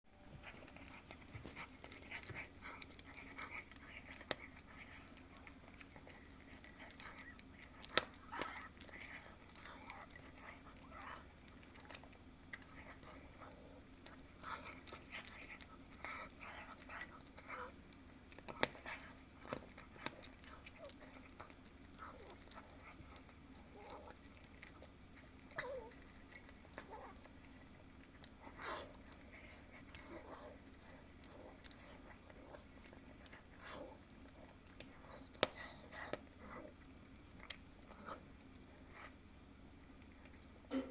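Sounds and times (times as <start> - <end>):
cat chewing and licking: 0.1 - 40.8.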